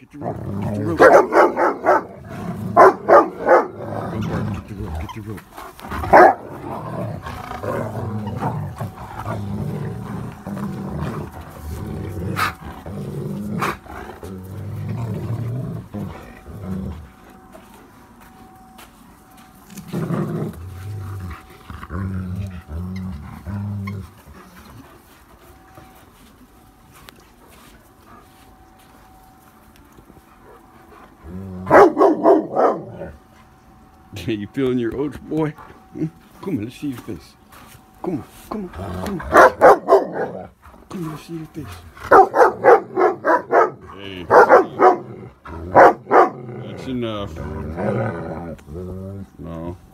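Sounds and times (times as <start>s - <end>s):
dogs growling in play: 0.1s - 34.1s, 35.2s - 49.9s.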